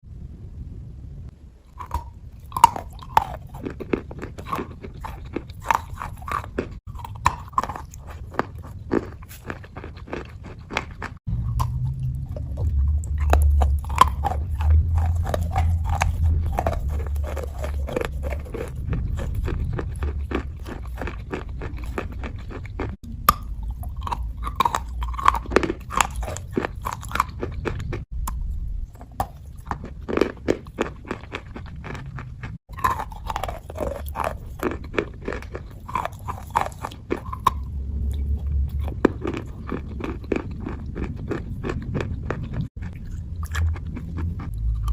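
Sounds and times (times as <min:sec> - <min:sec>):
close crunching and chewing: 0:01.7 - 0:44.9
wet mouth sounds: 0:01.7 - 0:44.9.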